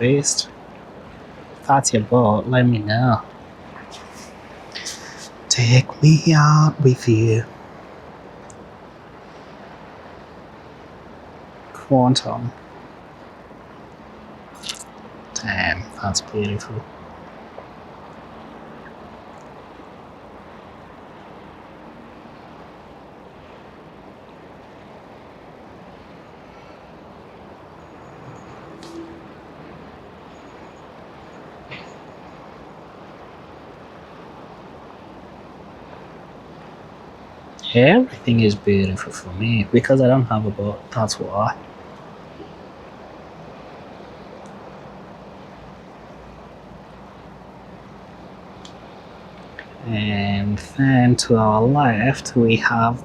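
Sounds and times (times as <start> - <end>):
motorboat engine rumble: 0.0 - 53.0.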